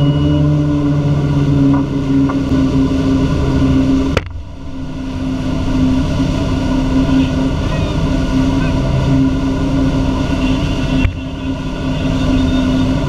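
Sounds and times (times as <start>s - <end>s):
motorboat engine running: 0.0s - 13.0s
rushing water: 0.0s - 13.0s
wind: 0.0s - 13.0s.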